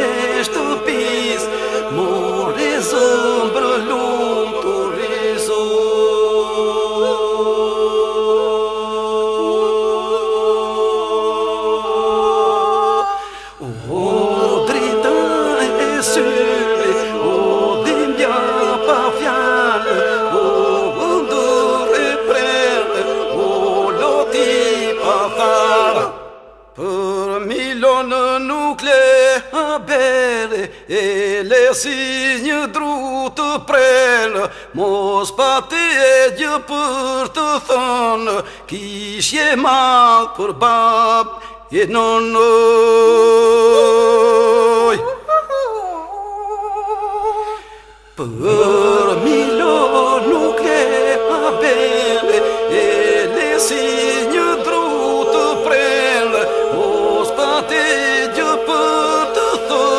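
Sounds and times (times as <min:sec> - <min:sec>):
lead voices singing ornamented melody: 0:00.0 - 0:59.9.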